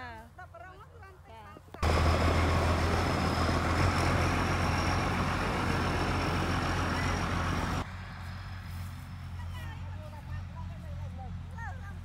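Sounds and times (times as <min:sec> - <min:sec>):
combine harvester engine drone: 0:01.8 - 0:11.5.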